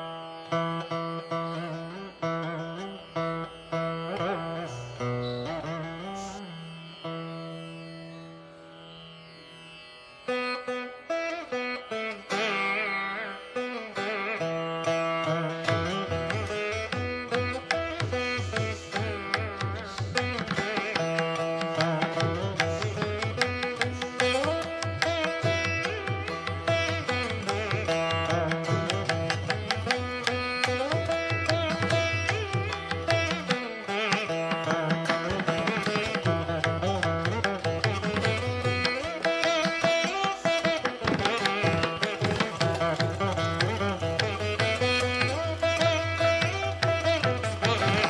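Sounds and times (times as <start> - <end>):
string melody with bending notes: 0.0 - 48.0.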